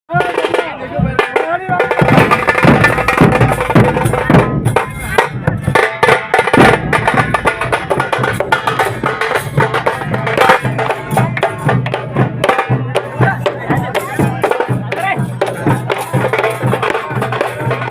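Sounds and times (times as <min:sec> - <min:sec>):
fast dense drumming: 0:00.1 - 0:17.9.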